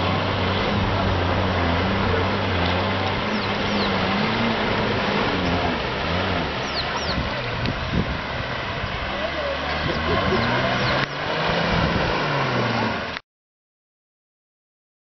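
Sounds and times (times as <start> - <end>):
vehicle engine humming: 0.0 - 13.2
water rushing: 0.0 - 13.2.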